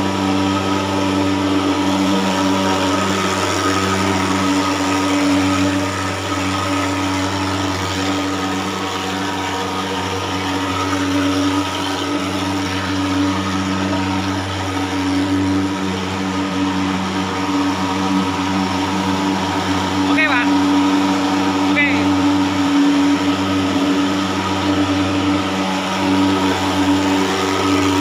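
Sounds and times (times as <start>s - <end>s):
fogging machine droning: 0.0s - 28.0s.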